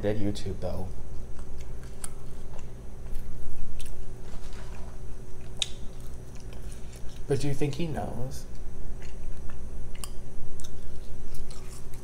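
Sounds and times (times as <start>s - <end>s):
faint low hum: 0.0s - 12.0s
chewing food: 1.1s - 7.3s, 8.5s - 12.0s.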